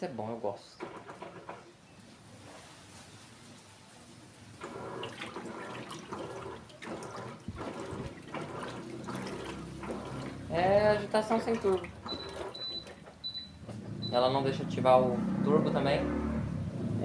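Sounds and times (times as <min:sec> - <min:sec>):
washing machine water sloshing: 0:00.8 - 0:15.4.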